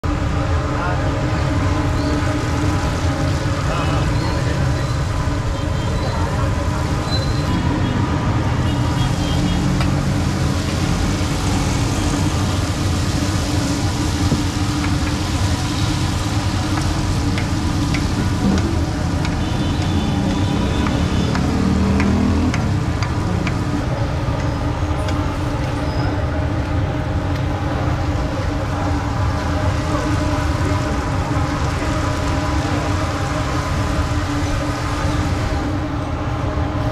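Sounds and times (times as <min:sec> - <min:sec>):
passing traffic: 0:00.0 - 0:36.9.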